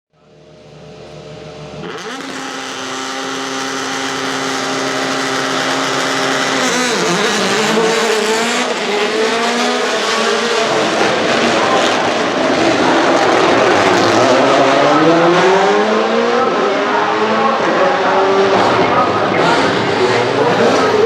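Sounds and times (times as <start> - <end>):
rally car engine at high revs: 0.4 - 21.0.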